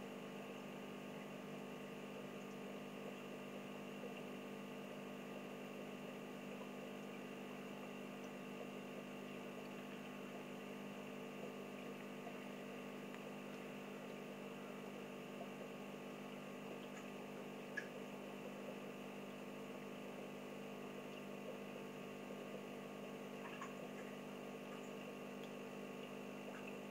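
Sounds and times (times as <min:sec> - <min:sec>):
aquarium pump humming: 0:00.0 - 0:26.9.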